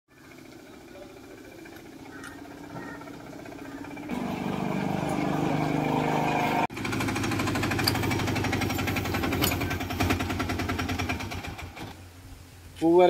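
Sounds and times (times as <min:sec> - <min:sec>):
engine idling with fast chugging: 0:00.1 - 0:05.5, 0:06.7 - 0:11.9.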